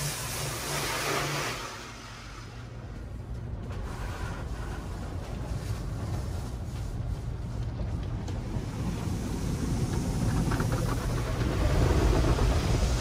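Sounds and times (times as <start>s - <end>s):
car wash machinery noise: 0.0s - 13.0s.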